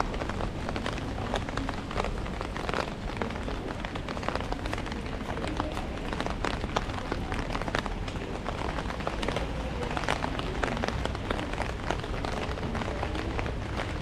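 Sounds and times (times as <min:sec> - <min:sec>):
rain drumming on an umbrella: 0:00.0 - 0:14.0.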